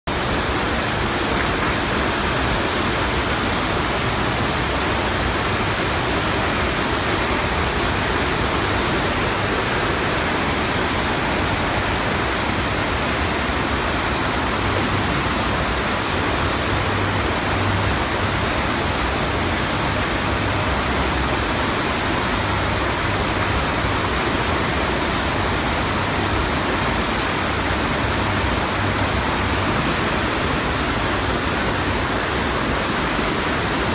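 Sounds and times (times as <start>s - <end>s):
water rushing up a slope: 0.1s - 33.9s.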